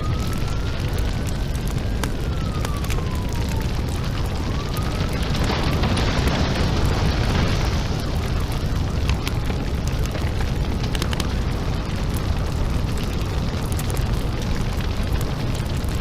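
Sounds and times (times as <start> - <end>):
fire crackling and popping: 0.0 - 16.0
house fire roaring: 0.0 - 16.0.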